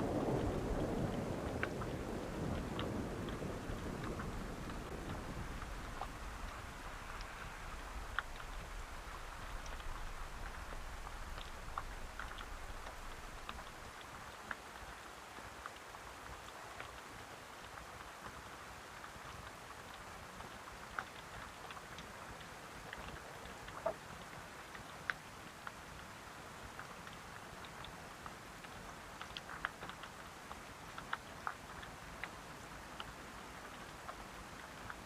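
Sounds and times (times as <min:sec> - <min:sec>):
raindrops hitting a surface: 0:00.0 - 0:35.0
steady rain falling: 0:00.0 - 0:35.0.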